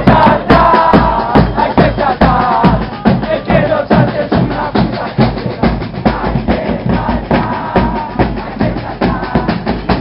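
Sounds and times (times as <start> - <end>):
bass and snare drums pounding: 0.0 - 10.0
crowd singing: 0.0 - 10.0.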